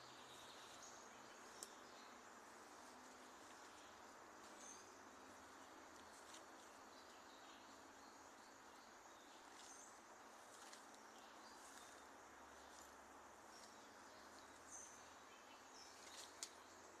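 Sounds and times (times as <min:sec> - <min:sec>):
small birds chirping: 0:00.0 - 0:17.0
steady low hiss: 0:00.0 - 0:17.0.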